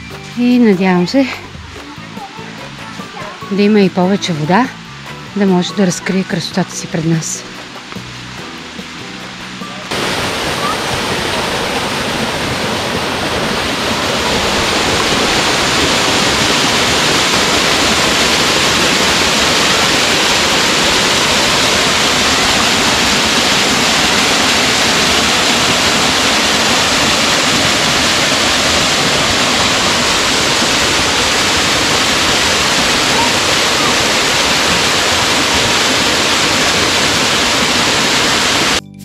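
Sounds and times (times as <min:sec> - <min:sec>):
waterfall splashing over rocks: 0:01.4 - 0:38.8.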